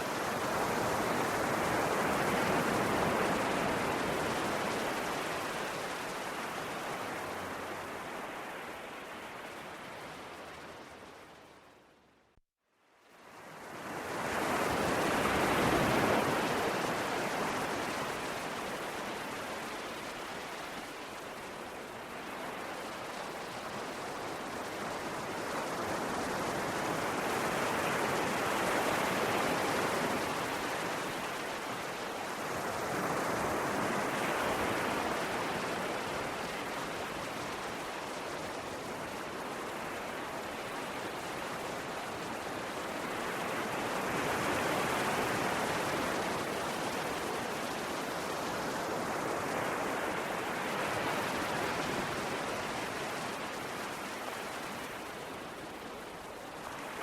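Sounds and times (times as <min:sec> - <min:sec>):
sea waves washing on shore: 0:00.0 - 0:11.4, 0:13.2 - 0:57.0.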